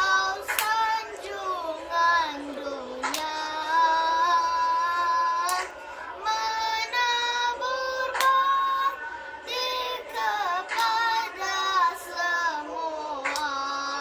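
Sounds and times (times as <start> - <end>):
boy singing solo: 0.0 - 14.0.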